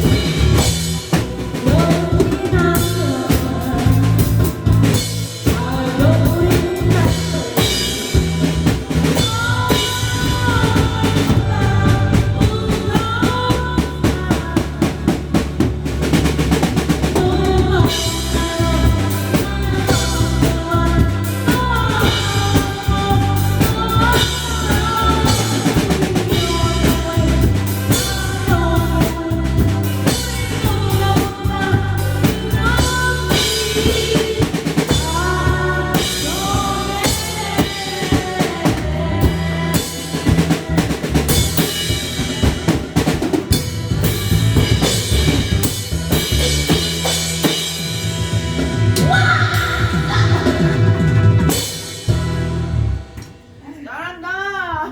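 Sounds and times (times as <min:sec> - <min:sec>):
bass line: 0:00.0 - 0:53.3
drum kit playing a busy beat: 0:00.0 - 0:53.7.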